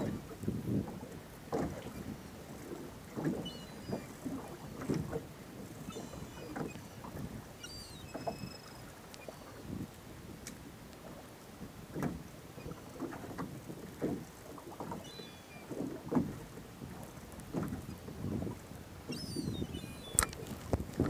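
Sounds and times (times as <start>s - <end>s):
water slapping against boat hull: 0.0s - 21.0s.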